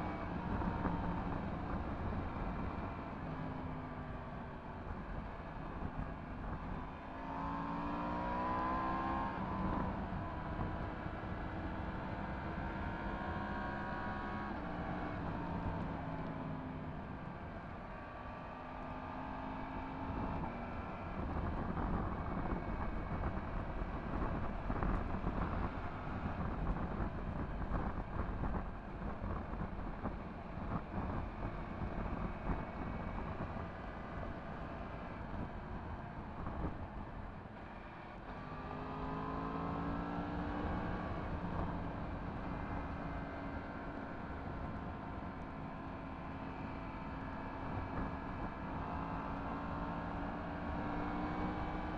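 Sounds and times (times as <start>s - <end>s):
wind and road noise: 0.0s - 51.9s.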